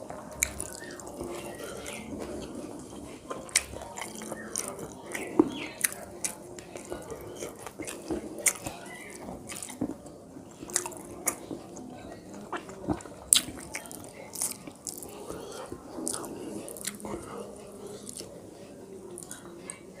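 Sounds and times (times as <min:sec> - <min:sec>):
person chewing and lip-smacking: 0:00.0 - 0:18.3, 0:19.1 - 0:19.8.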